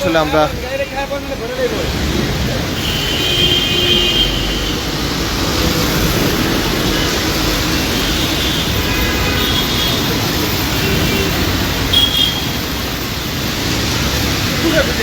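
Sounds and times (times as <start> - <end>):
road traffic on wet road: 0.0 - 15.0.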